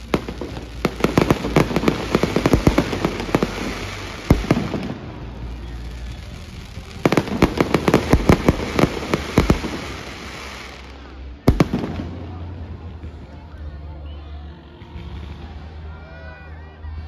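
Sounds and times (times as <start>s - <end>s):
fireworks bangs and crackles: 0.0s - 13.8s, 14.8s - 15.8s.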